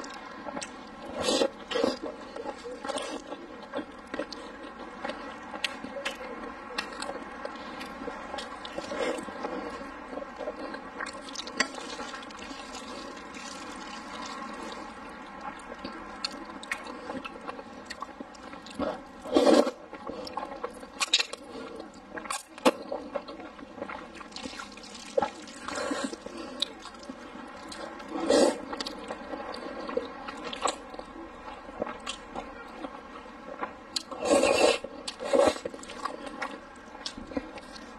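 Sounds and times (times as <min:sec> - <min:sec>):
wet chewing: 0:00.0 - 0:37.9.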